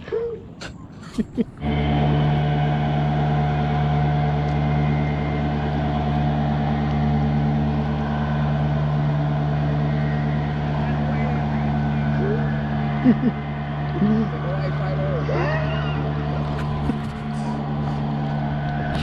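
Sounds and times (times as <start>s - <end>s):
boat motor running: 1.6s - 19.0s.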